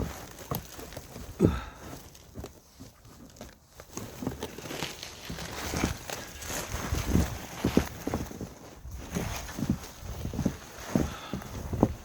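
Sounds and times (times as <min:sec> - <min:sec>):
footsteps crunching in snow: 0:00.0 - 0:12.0.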